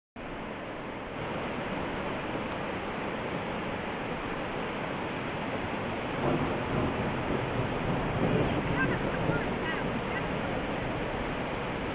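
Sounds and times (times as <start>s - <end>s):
floodwater rushing: 0.2s - 11.9s.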